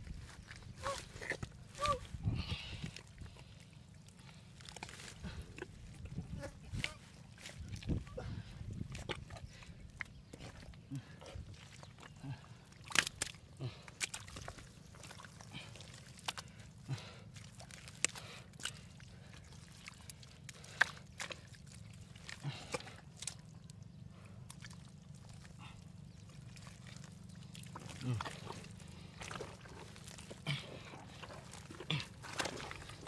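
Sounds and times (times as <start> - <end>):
hands squelching in wet mud: 0.0 - 33.0.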